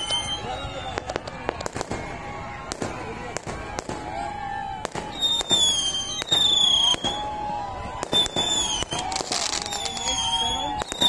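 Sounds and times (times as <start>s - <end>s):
fireworks bangs and cracks: 0.0s - 11.0s
whistling fireworks: 0.0s - 11.0s.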